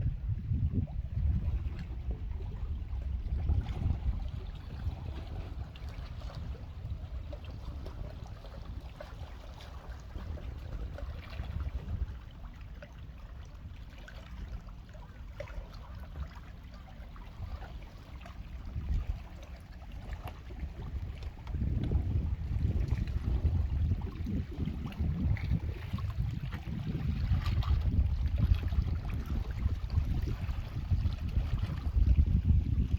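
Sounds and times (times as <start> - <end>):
faint seaside water: 0.0 - 32.9
wind rumbling on microphone: 0.0 - 32.9.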